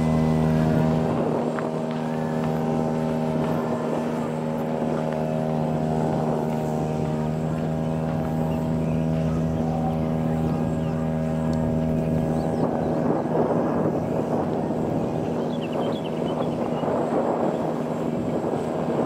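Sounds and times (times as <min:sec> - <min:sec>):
model plane propeller and motor: 0:00.0 - 0:19.0.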